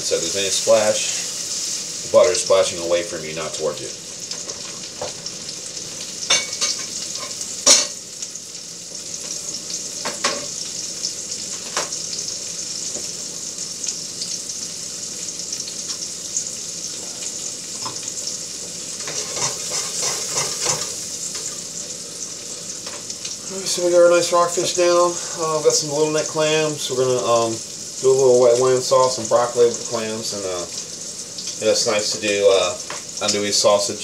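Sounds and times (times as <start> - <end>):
fish sizzling in butter: 0.0 - 34.0.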